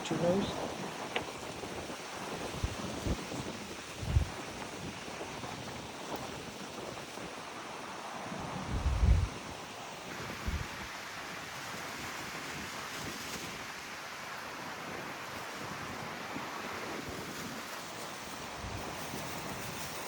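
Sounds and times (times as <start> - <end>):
steady wind blowing: 0.0 - 20.0.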